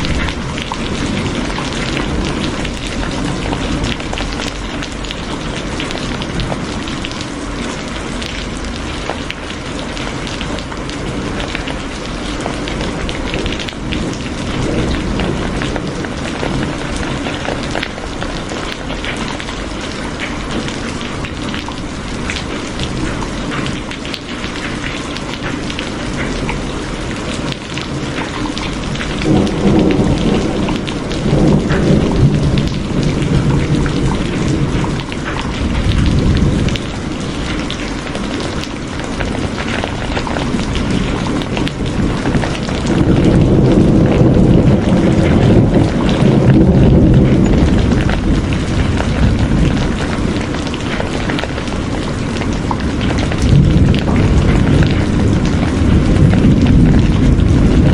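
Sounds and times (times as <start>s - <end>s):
low thunder rumble: 0.0s - 24.8s, 25.4s - 57.9s
rain drops pattering: 0.0s - 57.9s.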